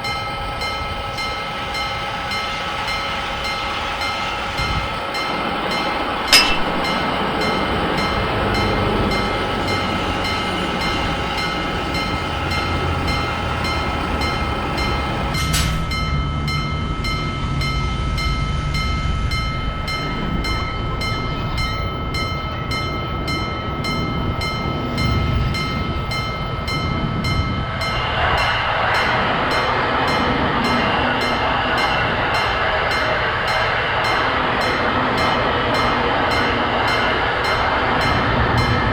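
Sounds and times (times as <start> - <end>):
level-crossing warning bell ringing: 0.0 - 38.9
train rumbling past: 0.0 - 38.9.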